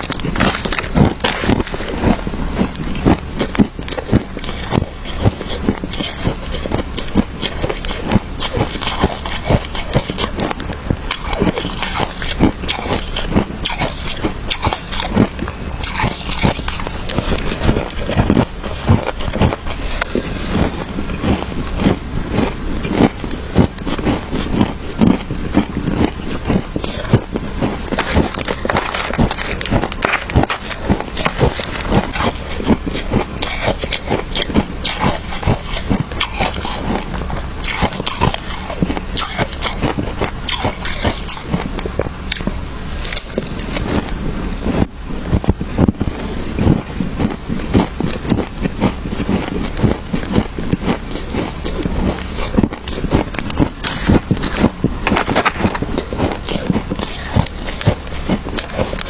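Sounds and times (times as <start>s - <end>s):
chewing crunchy shaved ice: 0.0s - 59.0s.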